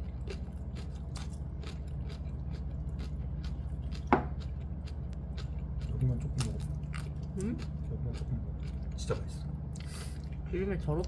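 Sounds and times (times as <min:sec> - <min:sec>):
crunchy chewing: 0:00.0 - 0:10.4
steady low hum: 0:00.0 - 0:11.0.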